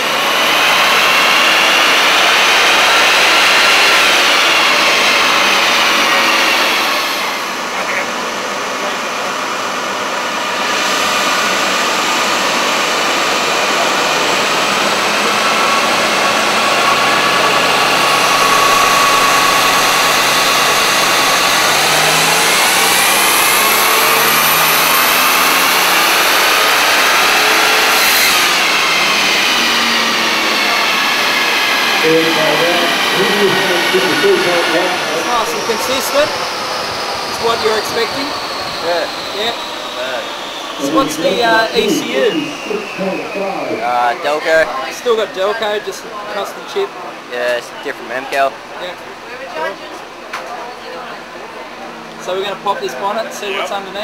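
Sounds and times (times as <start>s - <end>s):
car engine revving on a dyno: 0.0s - 53.3s.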